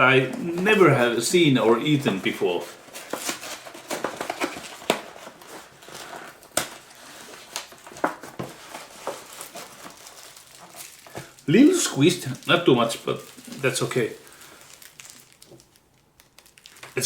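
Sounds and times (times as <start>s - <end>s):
food packaging crinkling: 2.2s - 17.0s.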